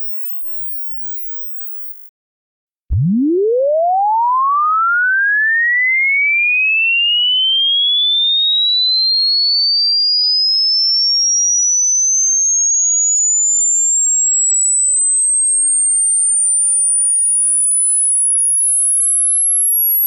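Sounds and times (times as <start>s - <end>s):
rising sine-wave test tone: 0.0s - 2.1s, 2.9s - 20.0s.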